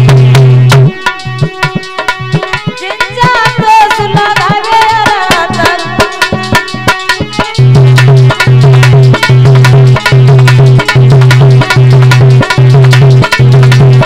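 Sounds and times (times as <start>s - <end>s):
hand drums fast rhythm: 0.0s - 14.0s
sliding melody line: 0.0s - 14.0s.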